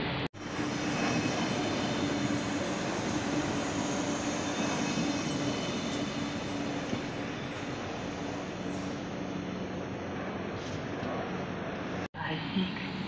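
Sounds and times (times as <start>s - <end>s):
train wheels rumbling on rail: 0.0s - 12.0s
low train hum: 0.0s - 13.0s.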